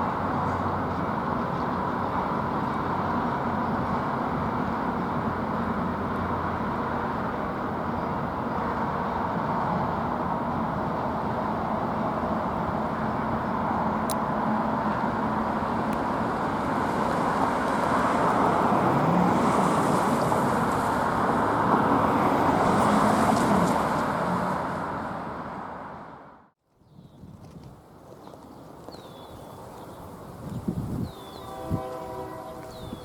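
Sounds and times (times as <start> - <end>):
train passing: 0.0 - 26.5, 28.4 - 33.0.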